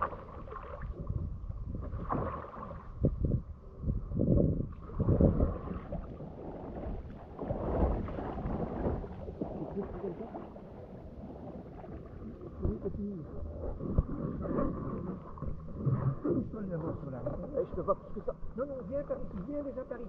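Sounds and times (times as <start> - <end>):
water sloshing and splashing: 0.0 - 3.4, 4.6 - 20.0.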